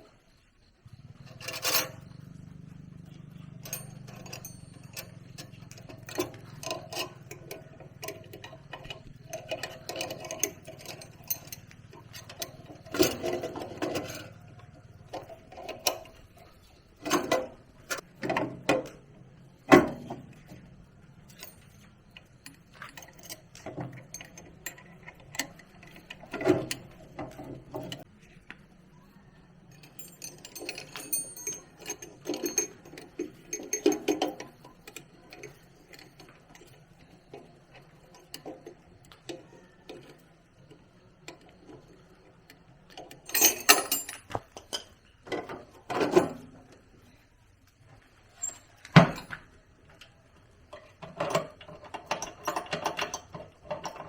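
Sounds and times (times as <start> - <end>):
metal tools clinking and knocking: 0.9 - 28.4, 29.0 - 54.0.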